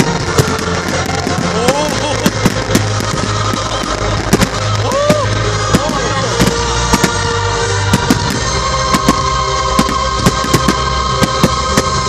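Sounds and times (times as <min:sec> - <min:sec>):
background music: 0:00.0 - 0:12.0
fireworks bangs: 0:00.0 - 0:12.0
fireworks whistling: 0:00.0 - 0:12.0.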